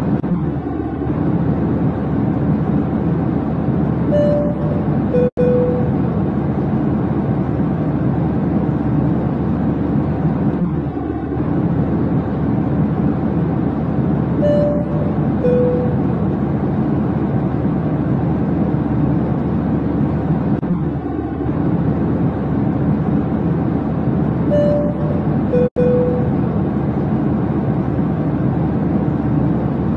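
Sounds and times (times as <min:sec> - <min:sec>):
airliner cabin engine noise: 0:00.0 - 0:29.9.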